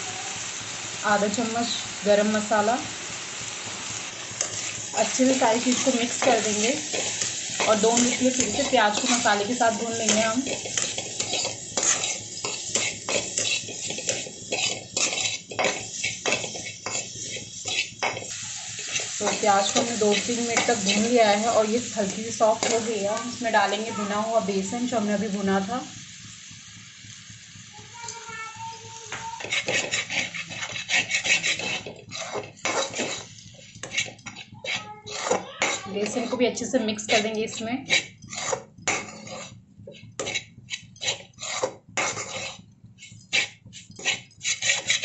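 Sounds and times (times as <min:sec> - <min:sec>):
onions sizzling: 0:00.0 - 0:45.0
spatula scraping a pan: 0:03.6 - 0:24.9, 0:28.0 - 0:45.0.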